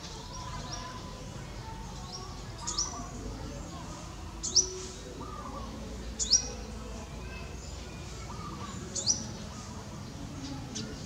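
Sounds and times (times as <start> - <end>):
other birds calling: 0.0 - 11.0.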